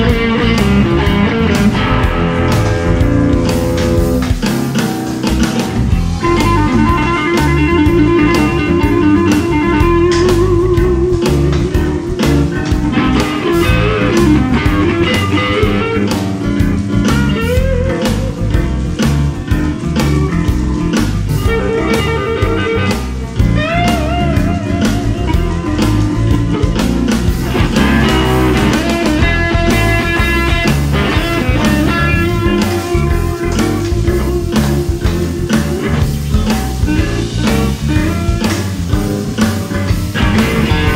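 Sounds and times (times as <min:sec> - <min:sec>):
drums and bass backing: 0:00.0 - 0:40.9
electric guitar lead melody: 0:00.0 - 0:40.9.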